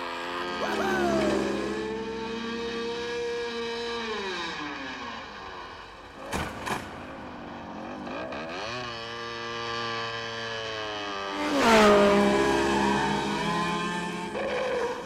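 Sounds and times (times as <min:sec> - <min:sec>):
dirt bike engine revving: 0:00.0 - 0:06.0, 0:07.4 - 0:15.0.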